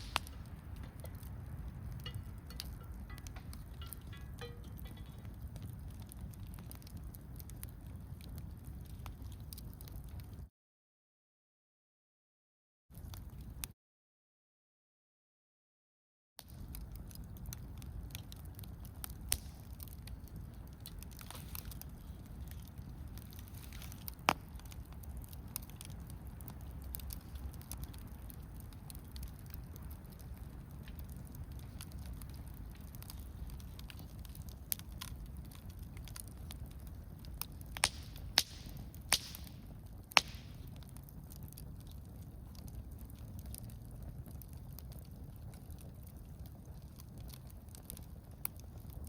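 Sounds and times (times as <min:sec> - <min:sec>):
campfire crackling and popping: 0:00.0 - 0:10.5, 0:13.0 - 0:13.7, 0:16.4 - 0:49.0.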